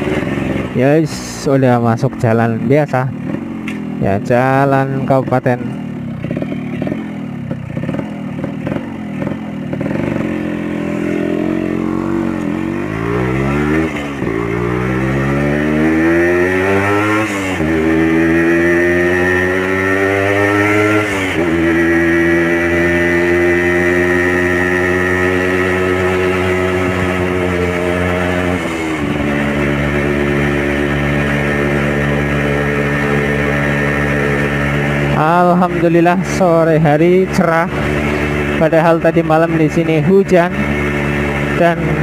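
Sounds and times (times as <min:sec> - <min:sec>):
two-stroke motorcycle engine revving: 0:00.0 - 0:42.0.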